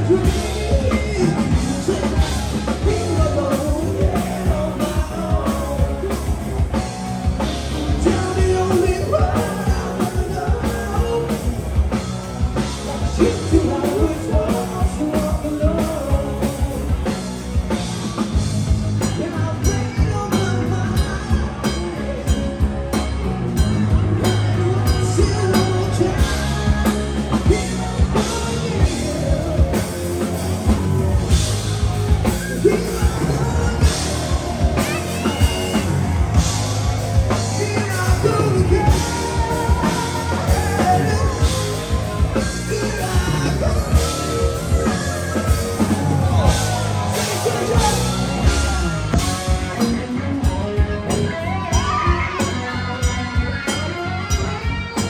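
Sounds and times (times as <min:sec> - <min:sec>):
person singing: 0:00.0 - 0:18.2, 0:23.6 - 0:55.0
rock band playing live: 0:00.0 - 0:55.0.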